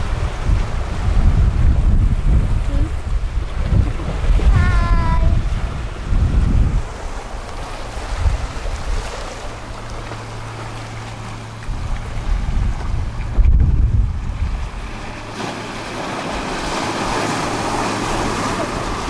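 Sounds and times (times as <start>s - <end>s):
waves splashing over rocks: 0.0s - 19.0s
wind buffeting microphone: 0.0s - 19.0s.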